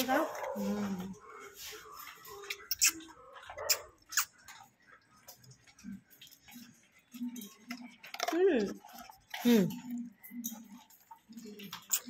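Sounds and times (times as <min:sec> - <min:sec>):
dog eating from a bowl: 0:00.0 - 0:12.0
chewing clicks: 0:02.0 - 0:12.0.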